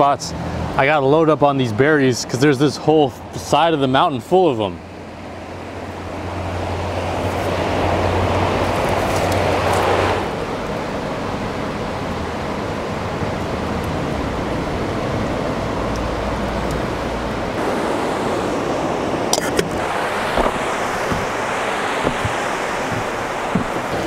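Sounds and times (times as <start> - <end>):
steady rushing outdoor noise: 0.0 - 24.0.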